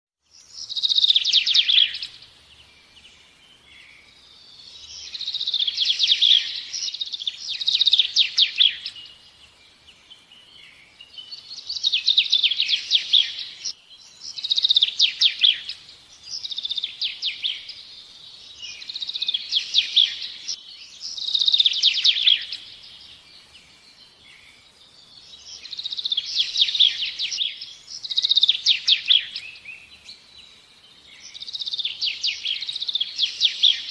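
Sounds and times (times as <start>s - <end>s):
songbird trilling: 0.4s - 2.3s, 4.6s - 9.3s, 10.4s - 23.2s, 25.3s - 30.4s, 31.0s - 33.9s.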